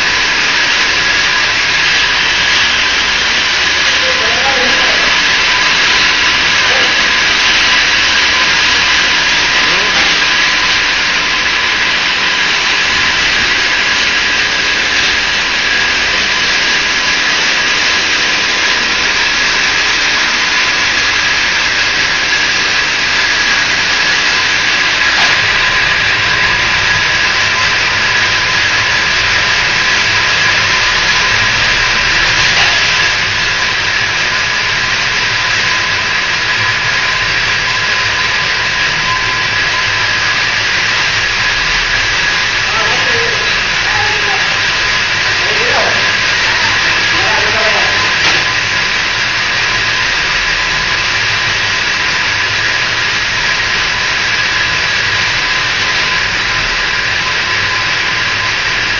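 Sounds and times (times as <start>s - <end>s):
wire netting machine running: 0.0s - 58.9s.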